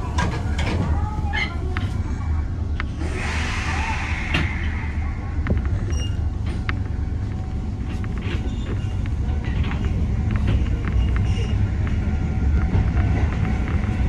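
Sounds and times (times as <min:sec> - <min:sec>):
train car low hum: 0:00.0 - 0:14.0.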